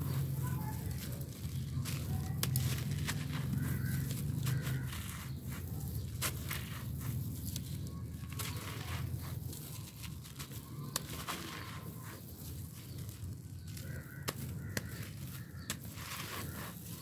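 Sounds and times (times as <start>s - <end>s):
hands crumbling gritty sand: 0.0s - 17.0s
sharp crackles: 0.0s - 17.0s.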